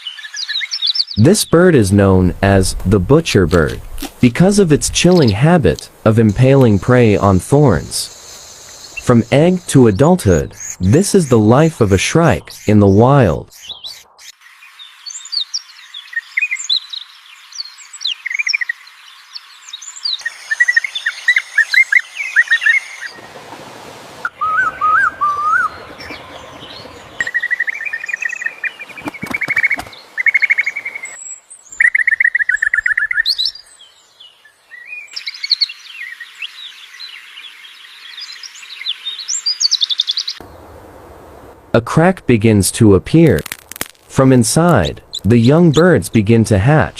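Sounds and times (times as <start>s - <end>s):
songbirds chirping and singing: 0.0s - 23.3s, 24.3s - 40.5s.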